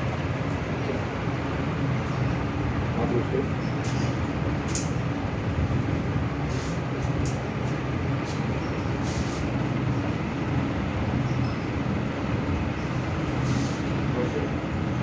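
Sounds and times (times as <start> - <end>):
constant background noise: 0.0 - 15.0
low mechanical hum: 0.0 - 15.0.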